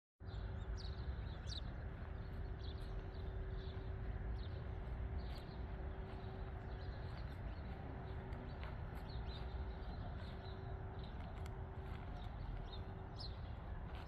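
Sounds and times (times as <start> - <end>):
faint hum: 0.3 - 14.0
small birds chirping: 0.3 - 14.0.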